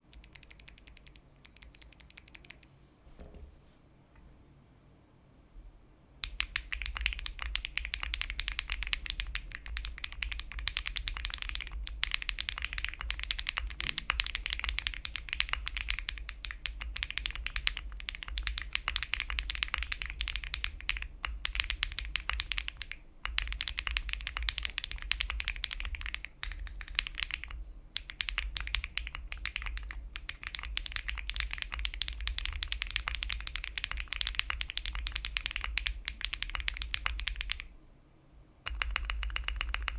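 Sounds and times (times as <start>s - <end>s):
fast typing on mechanical keyboard: 0.2s - 2.7s, 6.2s - 37.7s, 38.7s - 39.9s.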